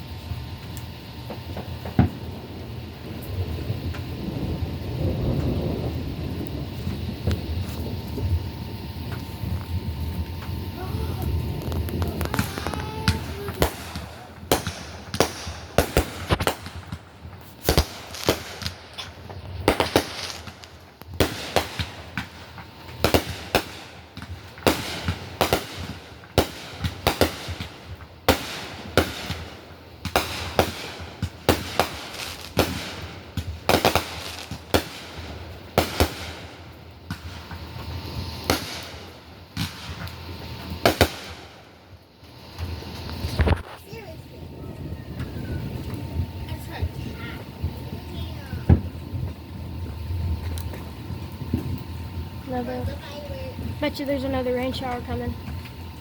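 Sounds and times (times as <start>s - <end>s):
fireworks bangs and pops: 0.0s - 56.0s.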